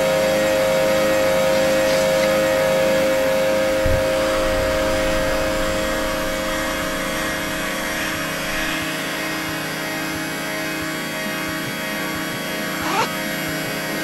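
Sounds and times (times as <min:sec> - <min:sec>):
droning hum: 0:00.0 - 0:14.0.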